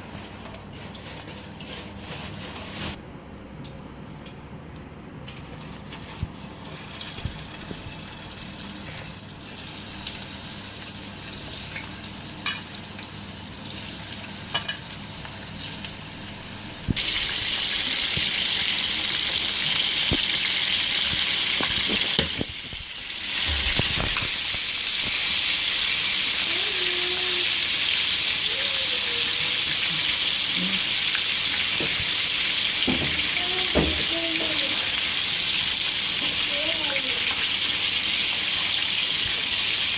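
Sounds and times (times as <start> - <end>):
food sizzling in hot oil: 6.2 - 39.9.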